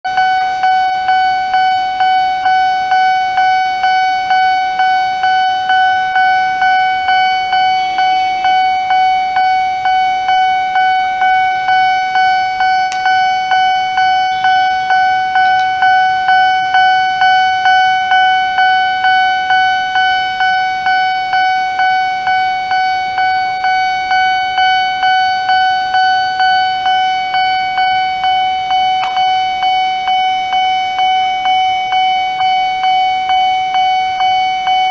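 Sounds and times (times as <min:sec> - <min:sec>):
railway crossing alarm dinging: 0:00.0 - 0:34.9.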